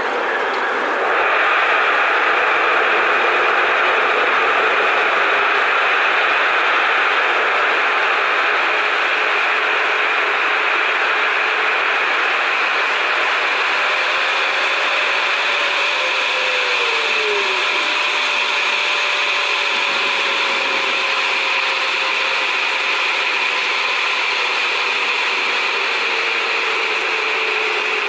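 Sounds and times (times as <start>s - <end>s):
jet engine drone: 0.0s - 28.0s
steady whine: 0.0s - 28.0s.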